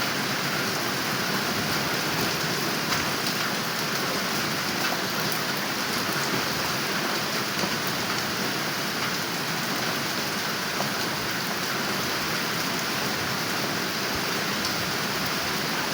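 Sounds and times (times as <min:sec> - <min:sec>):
steady rain falling: 0:00.0 - 0:15.9.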